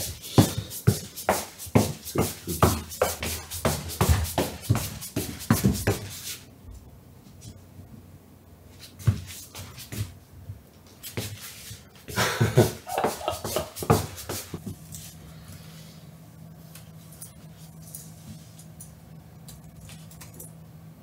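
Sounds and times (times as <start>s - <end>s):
low recording hum: 0.0s - 21.0s.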